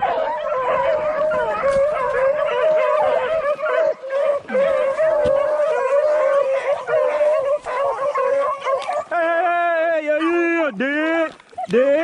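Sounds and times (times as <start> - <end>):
dogs baying and howling: 0.0 - 10.8, 11.5 - 12.0.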